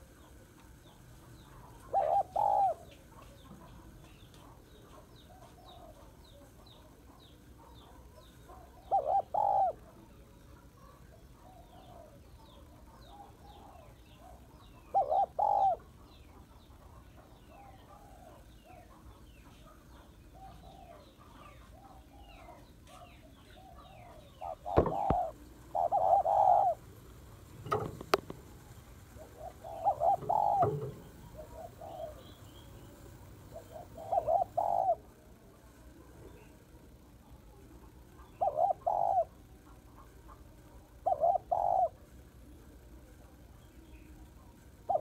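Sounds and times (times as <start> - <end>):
dove cooing: 0.0 - 35.4, 37.5 - 42.2, 43.7 - 45.0.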